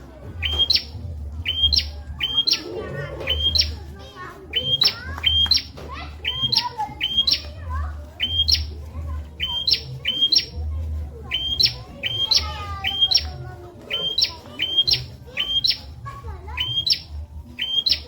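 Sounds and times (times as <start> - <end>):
bird calling high sharp notes: 0.3 - 10.6, 11.3 - 18.0.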